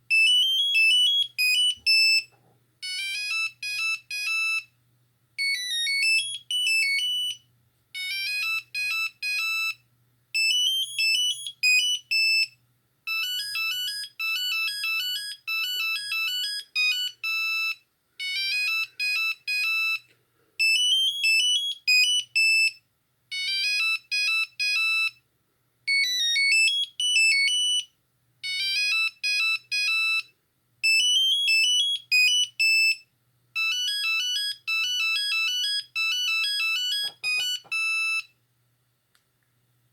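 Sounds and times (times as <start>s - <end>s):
mobile phone ringtone beeping: 0.1s - 4.7s, 5.4s - 7.4s, 8.0s - 9.8s, 10.4s - 25.2s, 25.9s - 38.3s.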